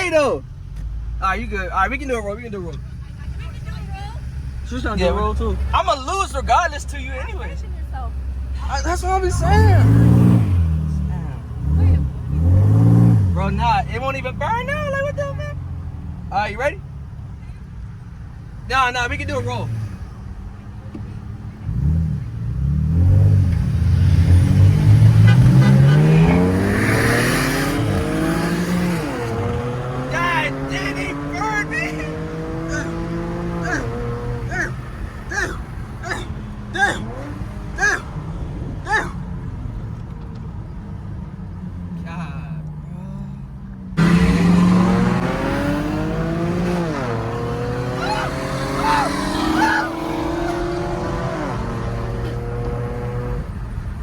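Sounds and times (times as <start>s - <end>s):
car engine accelerating hard: 0.0s - 17.3s, 18.4s - 42.2s, 43.9s - 54.0s.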